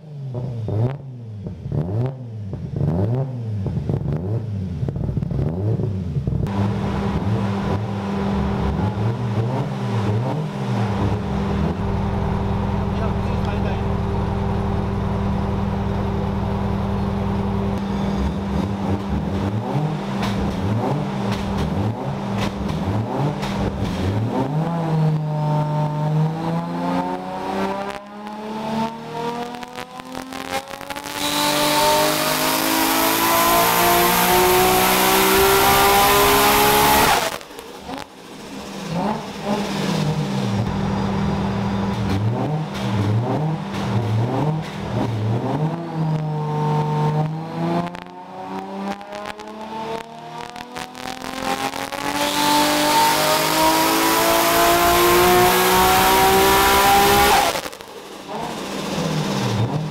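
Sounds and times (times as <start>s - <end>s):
car engine revving on a dyno: 0.2s - 59.9s.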